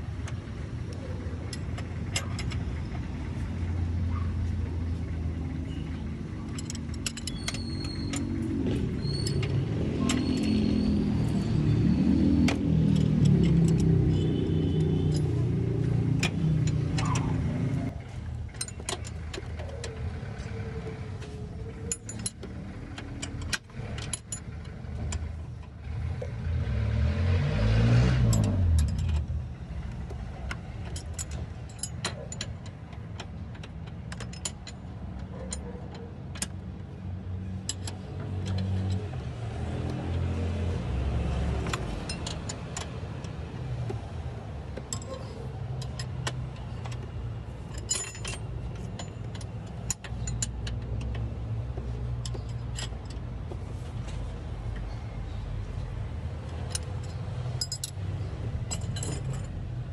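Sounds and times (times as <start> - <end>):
low vehicle rumble: 0.0 - 59.9
hand tools clinking on metal: 5.7 - 25.6, 30.1 - 59.9.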